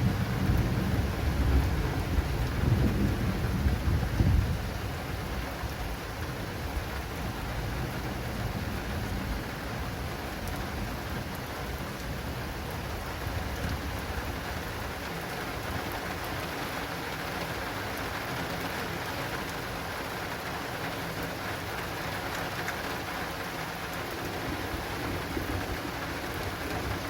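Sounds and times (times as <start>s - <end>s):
heavy rain drumming on awning: 0.0s - 27.0s.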